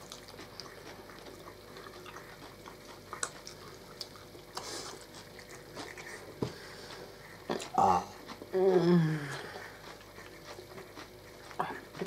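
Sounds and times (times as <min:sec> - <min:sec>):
faint chewing: 0:00.0 - 0:12.0.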